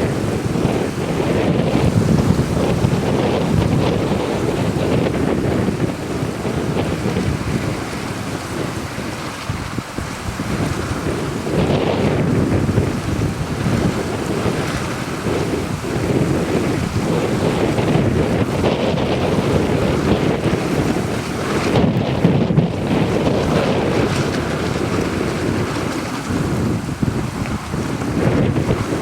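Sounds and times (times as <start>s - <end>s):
water rushing and splashing: 0.0s - 29.0s
wind buffeting microphone: 0.0s - 29.0s.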